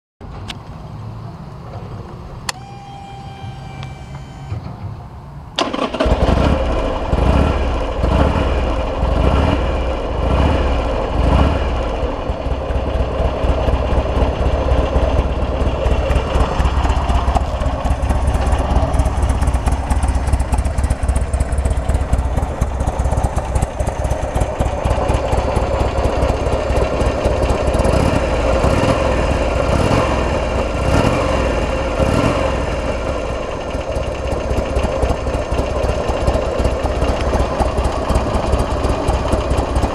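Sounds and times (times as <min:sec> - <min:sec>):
motorcycle engine starting and idling: 0:00.2 - 0:39.9.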